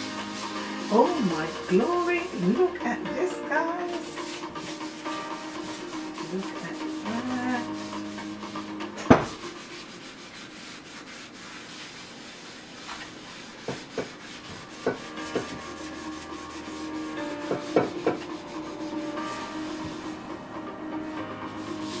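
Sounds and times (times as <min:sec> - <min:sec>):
gloved hand rubbing frying pan: 0:00.0 - 0:22.0.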